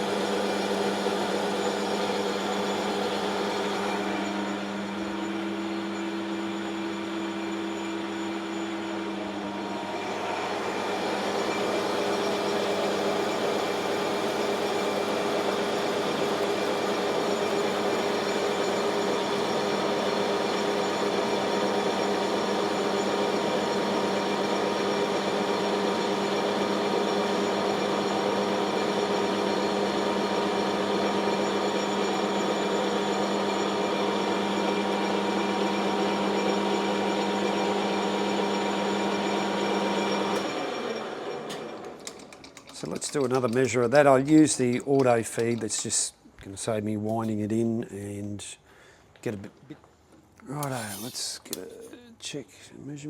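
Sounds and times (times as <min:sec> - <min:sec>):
lathe drive humming: 0:00.0 - 0:08.5, 0:09.2 - 0:46.0.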